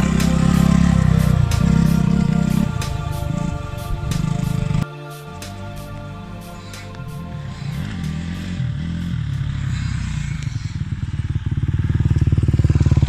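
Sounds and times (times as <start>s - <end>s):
motocross bike engine running: 0.0s - 4.8s, 7.4s - 13.0s.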